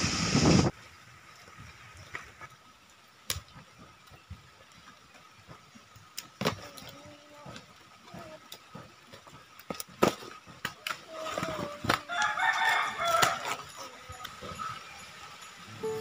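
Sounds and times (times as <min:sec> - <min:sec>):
rushing wind and rain: 0:00.0 - 0:16.0.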